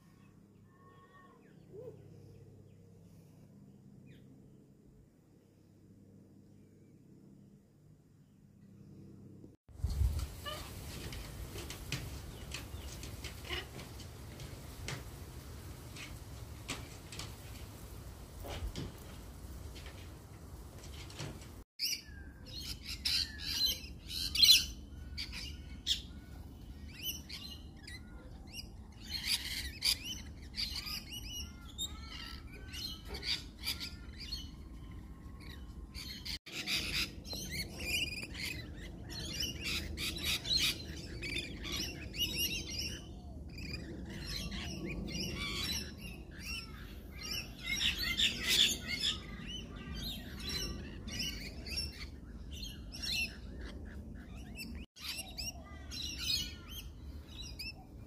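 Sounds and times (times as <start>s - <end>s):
birds chirping and squawking: 10.2s - 58.0s.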